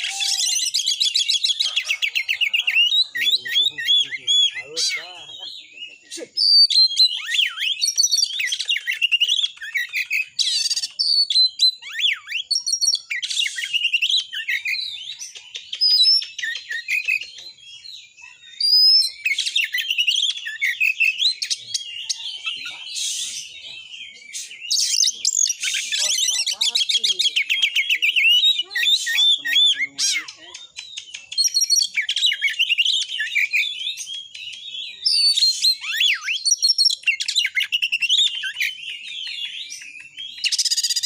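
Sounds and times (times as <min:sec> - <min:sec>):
bird singing whistles and trills: 0:00.0 - 0:41.0.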